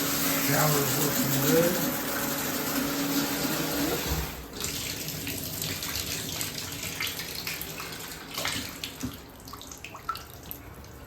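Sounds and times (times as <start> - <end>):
water running from faucet: 0.0 - 11.0.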